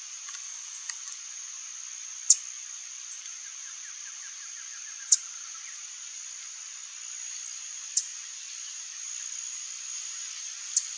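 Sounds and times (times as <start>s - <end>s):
insect drone: 0.0s - 10.9s.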